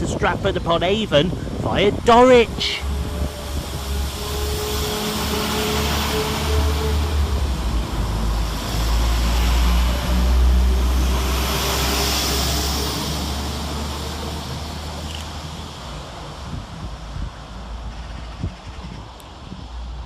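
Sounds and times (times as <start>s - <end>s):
diesel train engines rumbling: 0.0s - 20.0s.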